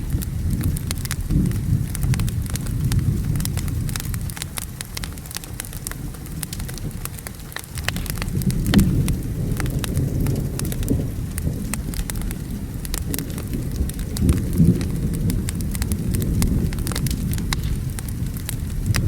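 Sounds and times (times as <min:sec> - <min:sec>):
rain: 0:00.0 - 0:19.0
rumble of thunder: 0:00.0 - 0:19.0
wood fire crackling: 0:00.0 - 0:19.0.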